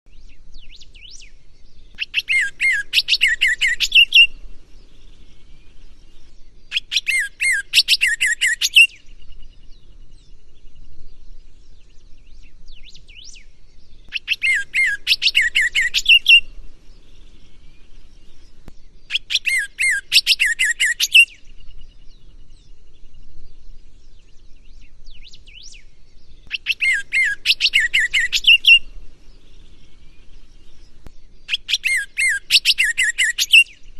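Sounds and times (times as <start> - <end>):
bird singing: 0.1 - 33.9.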